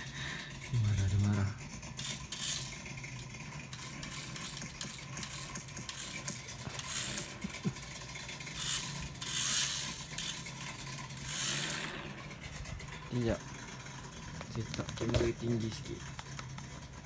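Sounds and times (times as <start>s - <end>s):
toy car electric motor whirring: 0.0s - 17.0s.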